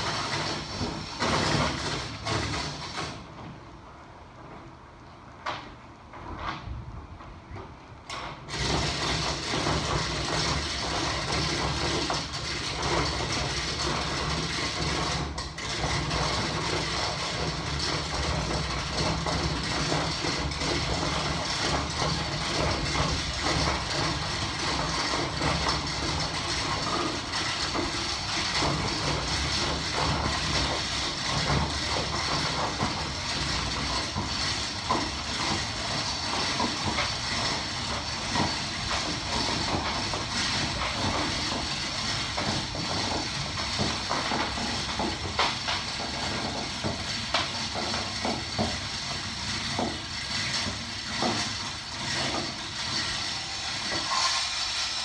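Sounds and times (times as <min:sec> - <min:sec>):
electric hoist motor running: 0:00.0 - 0:03.6, 0:08.1 - 0:55.0.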